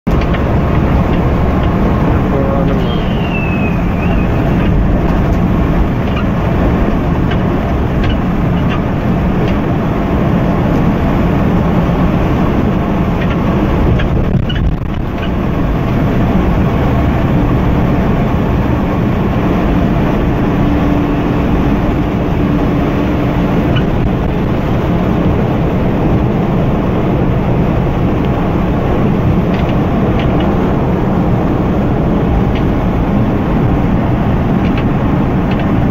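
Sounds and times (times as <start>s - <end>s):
bus engine drone and road noise: 0.0s - 35.9s.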